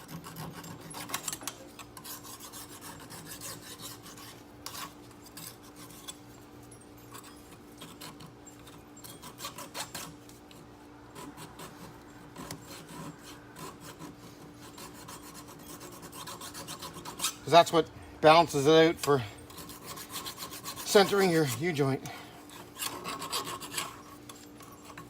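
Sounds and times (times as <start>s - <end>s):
file scraping on steel: 0.0s - 25.0s.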